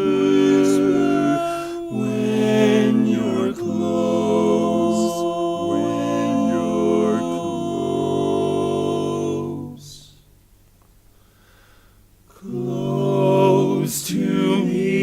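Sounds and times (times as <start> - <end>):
barbershop singers a cappella: 0.0 - 10.2, 12.3 - 15.0.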